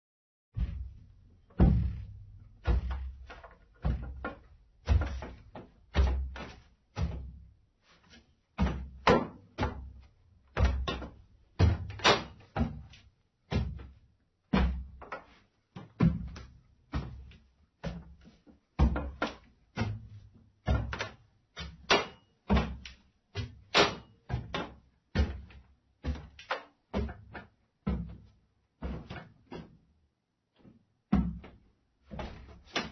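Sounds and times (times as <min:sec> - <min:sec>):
footsteps in socks on wooden stairs: 0:00.6 - 0:21.9, 0:22.5 - 0:29.8, 0:30.5 - 0:32.9.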